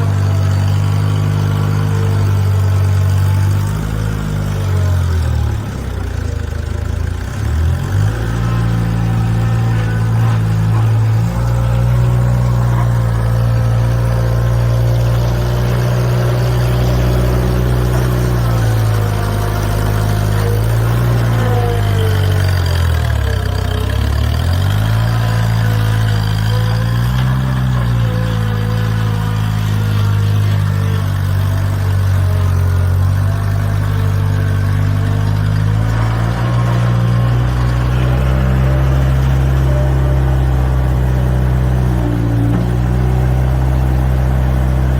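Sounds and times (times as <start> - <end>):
skid steer engine running: 0.0 - 44.9.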